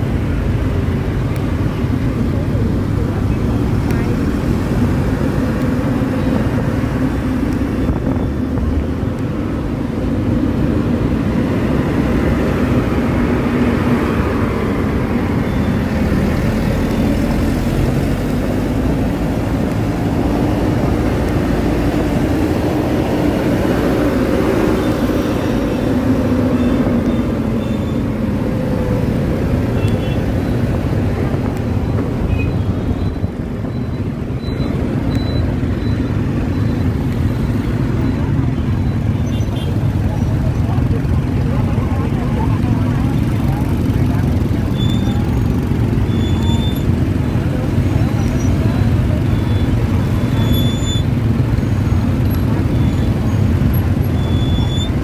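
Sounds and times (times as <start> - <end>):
motorbike traffic: 0.0 - 55.0
road rumble: 0.0 - 55.0.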